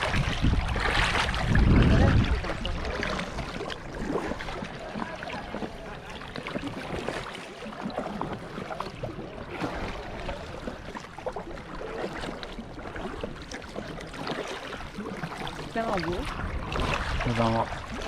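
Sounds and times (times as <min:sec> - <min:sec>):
water sloshing around canoe: 0:00.0 - 0:18.0.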